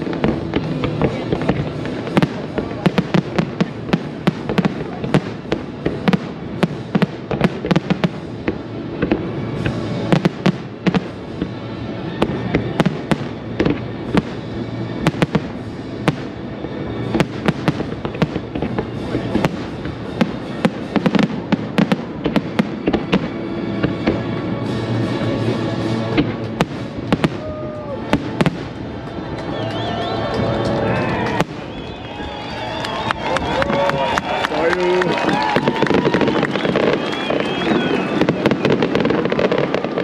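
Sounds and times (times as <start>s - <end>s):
music playing: 0.0s - 40.0s.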